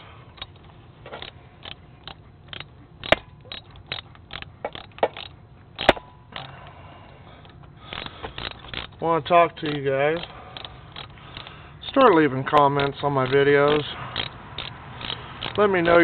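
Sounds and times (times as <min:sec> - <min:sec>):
hand tools clicking on metal: 0:00.3 - 0:16.0.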